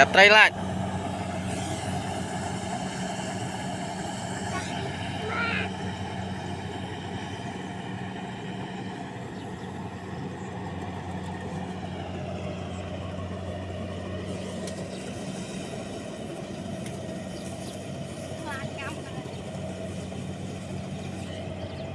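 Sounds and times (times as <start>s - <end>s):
combine harvester machine hum: 0.0s - 21.9s.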